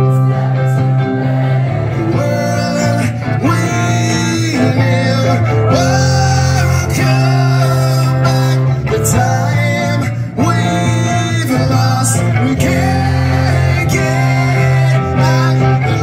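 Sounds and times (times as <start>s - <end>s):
electric guitar: 0.0s - 16.0s
live rock band: 0.0s - 16.0s
man singing: 1.9s - 16.0s.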